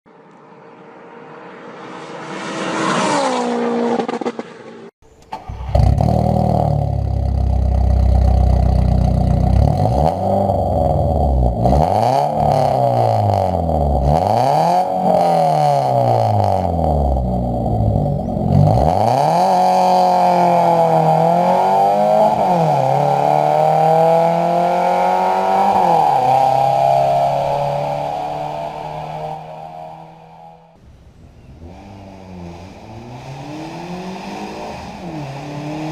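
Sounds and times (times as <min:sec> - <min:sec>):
car engine revving raspy: 0:01.8 - 0:35.9.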